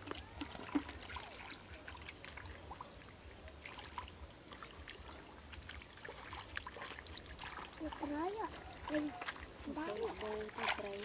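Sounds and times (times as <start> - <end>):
hands splashing in muddy water: 0.0 - 2.9, 3.5 - 11.0.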